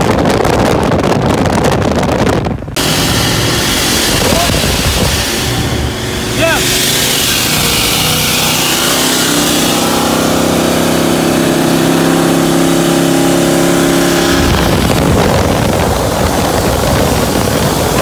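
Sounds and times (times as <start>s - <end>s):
car engines at full throttle: 0.0s - 18.0s
wind and road noise: 0.0s - 18.0s.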